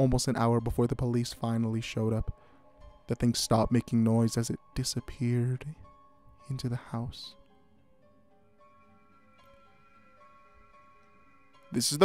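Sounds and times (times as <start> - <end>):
faint soft background music: 0.0 - 12.0.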